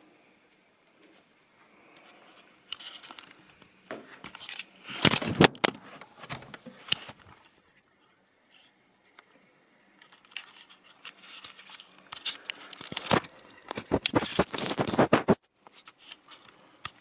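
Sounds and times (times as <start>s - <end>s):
rustling and crinkling: 0.5s - 9.3s, 9.9s - 17.0s.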